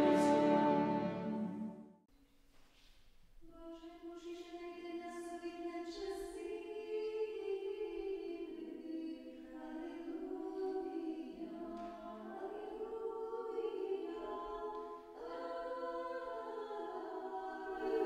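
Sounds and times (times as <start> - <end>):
a cappella choir singing: 0.0 - 1.8, 4.1 - 18.0.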